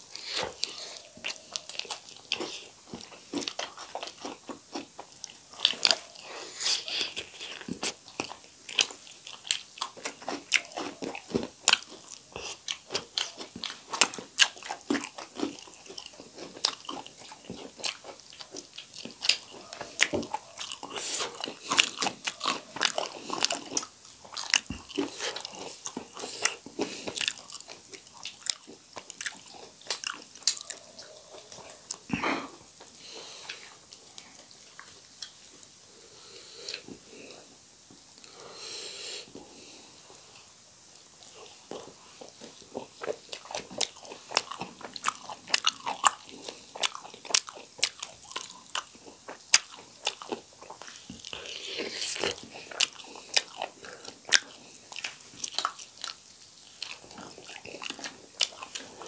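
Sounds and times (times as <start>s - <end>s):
people chewing and crunching: 0.0s - 59.0s.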